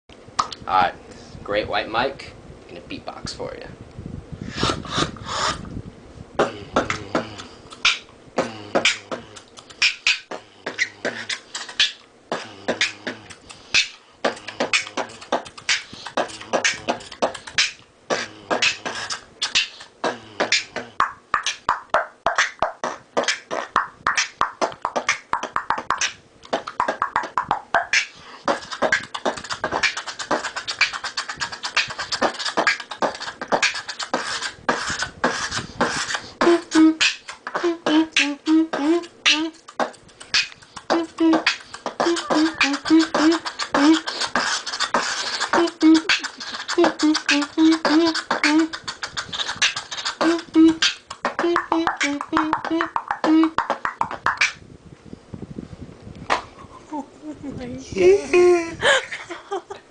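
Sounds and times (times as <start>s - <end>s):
beatboxing rhythm: 0.4s - 0.8s, 4.4s - 5.8s, 6.4s - 54.6s.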